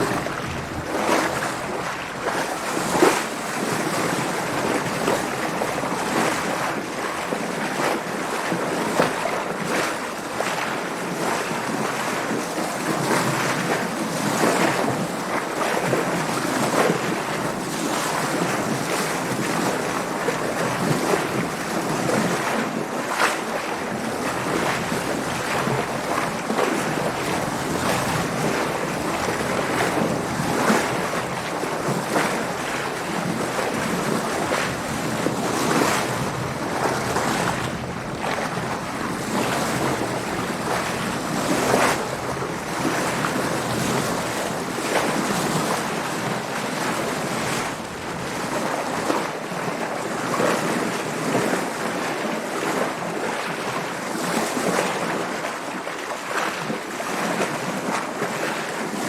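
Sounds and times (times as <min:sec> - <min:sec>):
water splashing against boat hull: 0:00.0 - 0:59.0.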